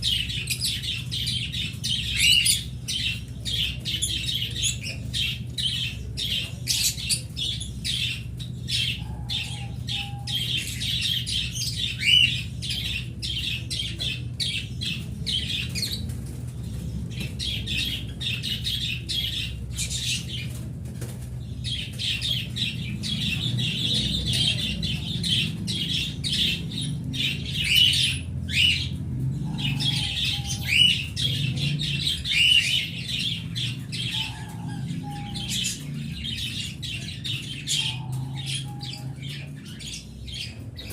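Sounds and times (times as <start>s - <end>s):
cage birds chirping: 0.0s - 40.9s.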